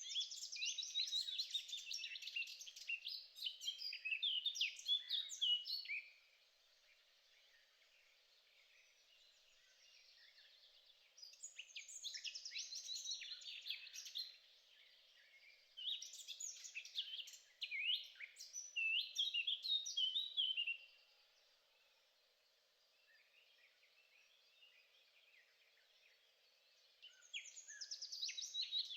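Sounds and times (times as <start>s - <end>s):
songbird chirping and twittering: 0.0s - 28.9s.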